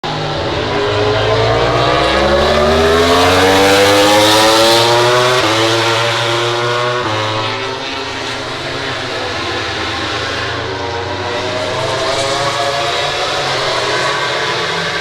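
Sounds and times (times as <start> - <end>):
racing motorcycle accelerating: 0.0 - 15.0.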